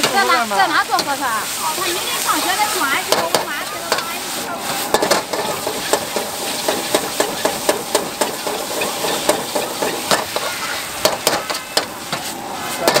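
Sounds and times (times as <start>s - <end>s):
food sizzling: 0.0s - 13.0s
metal ladle scraping a wok: 0.8s - 13.0s.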